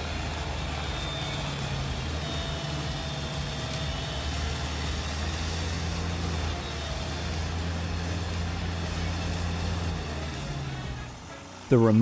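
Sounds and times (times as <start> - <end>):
engine drone: 0.0 - 12.0
grinding noise: 0.0 - 12.0.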